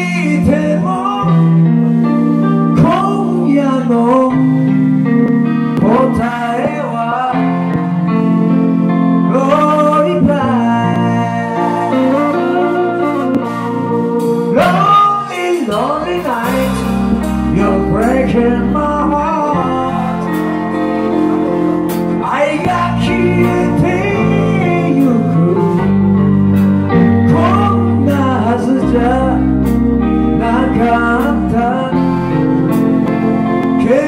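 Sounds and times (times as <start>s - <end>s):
bending guitar lead melody: 0.0s - 34.0s
live rock band playing: 0.0s - 34.0s.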